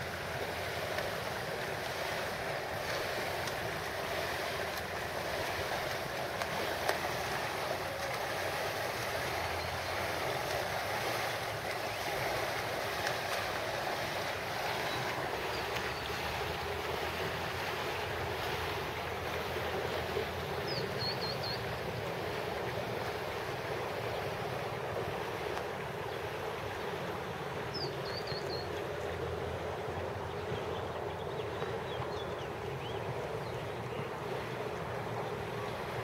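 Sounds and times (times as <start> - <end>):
steady outdoor rushing noise: 0.0 - 36.0.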